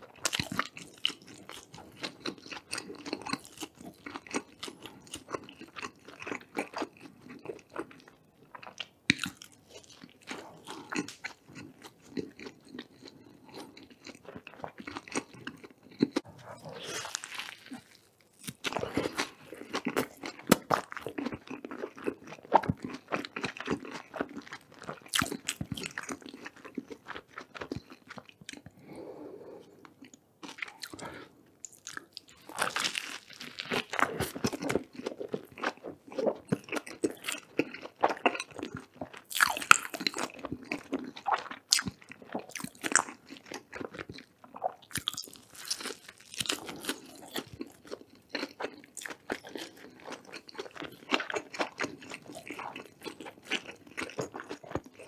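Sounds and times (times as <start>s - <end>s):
crunchy chewing of burger: 0.0s - 29.0s, 29.6s - 55.0s.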